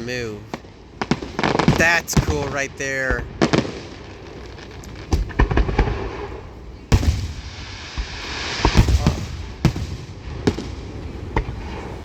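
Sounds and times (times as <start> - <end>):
fireworks bangs and booms: 0.0 - 12.0
firework hiss: 0.5 - 12.0.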